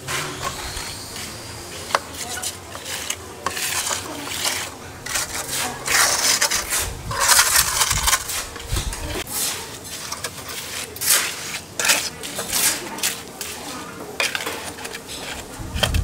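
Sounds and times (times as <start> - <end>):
trowel scraping wet concrete: 0.0 - 16.0.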